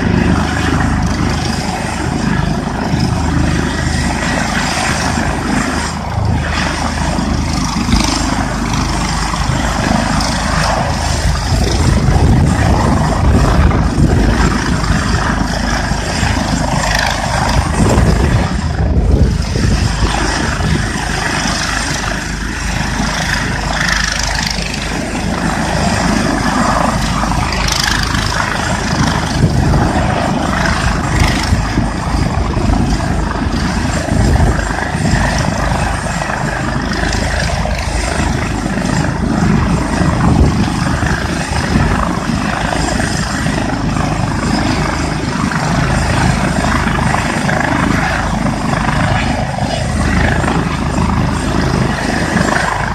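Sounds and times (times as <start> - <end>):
helicopter rotors and engine: 0.0 - 52.9.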